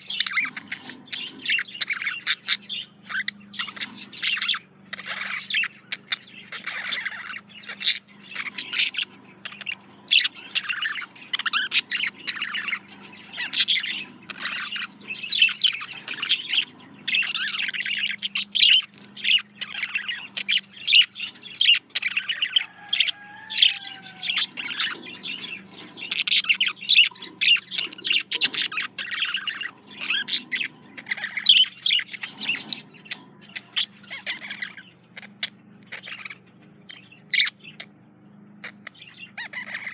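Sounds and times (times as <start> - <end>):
budgerigar warbling: 0.0 - 37.9, 38.6 - 39.9.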